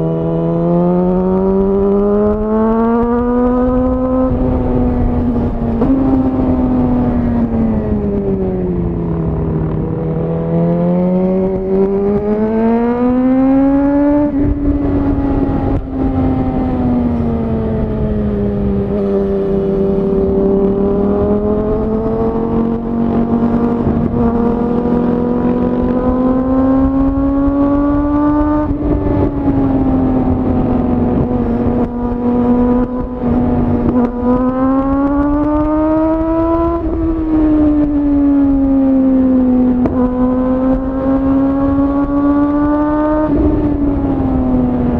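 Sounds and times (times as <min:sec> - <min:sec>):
motorcycle engine revving: 0:00.0 - 0:44.9
wind and road rush: 0:00.0 - 0:44.9.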